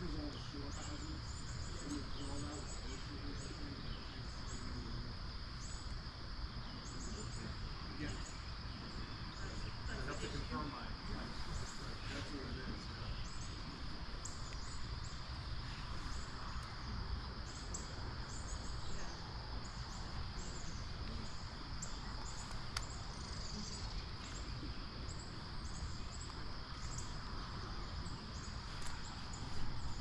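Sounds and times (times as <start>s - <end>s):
insects chirping: 0.0s - 30.0s
outdoor background hiss: 0.0s - 30.0s.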